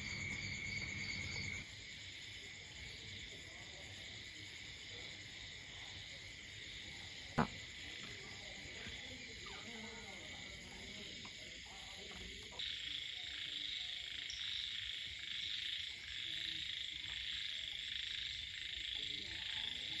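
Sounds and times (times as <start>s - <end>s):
chorus of frogs and insects: 0.0s - 20.0s.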